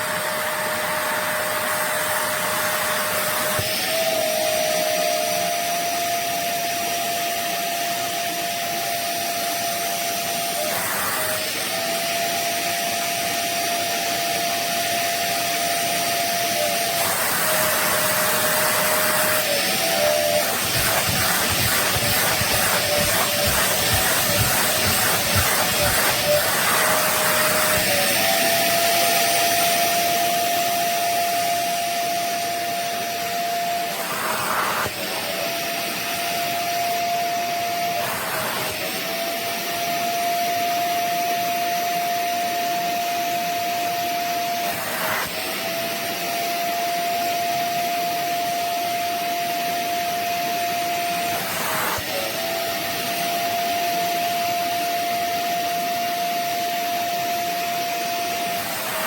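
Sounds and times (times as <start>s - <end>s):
wet vacuum motor whine: 0.0s - 59.0s.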